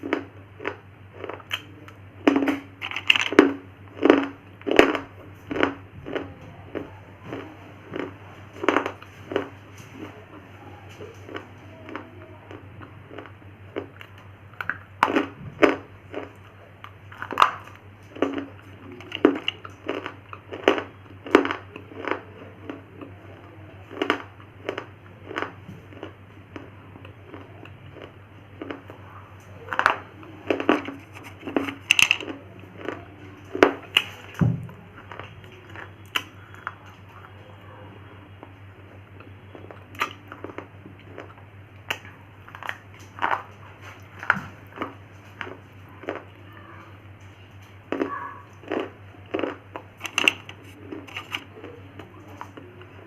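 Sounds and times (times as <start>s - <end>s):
person crunching something hard: 0.0s - 9.7s, 11.2s - 29.0s, 29.6s - 37.3s, 39.2s - 46.4s, 47.8s - 51.8s.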